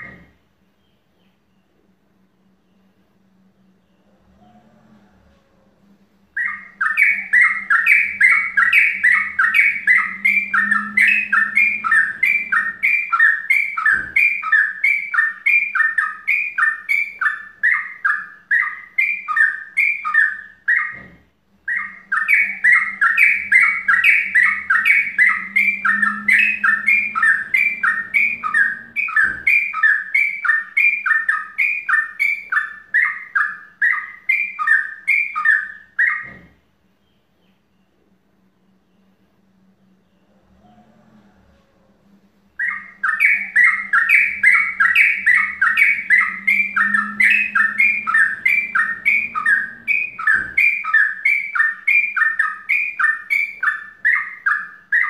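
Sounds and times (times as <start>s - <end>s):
bird chirping rapidly: 6.3s - 38.0s, 42.5s - 55.0s.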